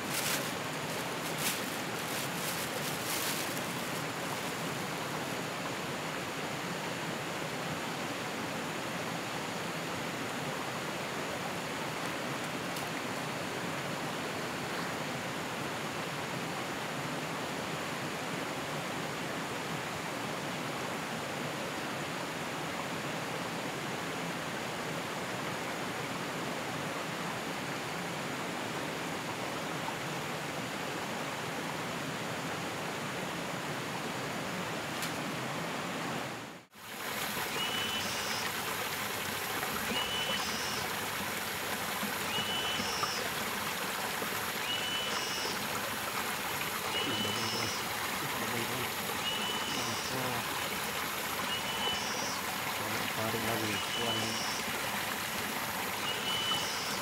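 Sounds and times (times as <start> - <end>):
flowing water rushing: 0.0 - 57.0.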